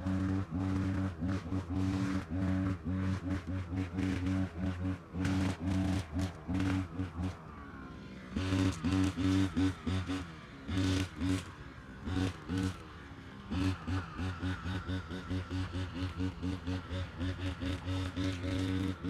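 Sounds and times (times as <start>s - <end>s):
brush cutter engine revving: 0.0s - 19.0s.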